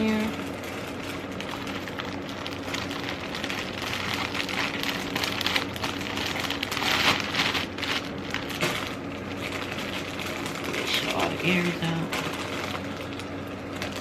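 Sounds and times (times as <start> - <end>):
plastic mailer rustling: 0.0 - 14.0.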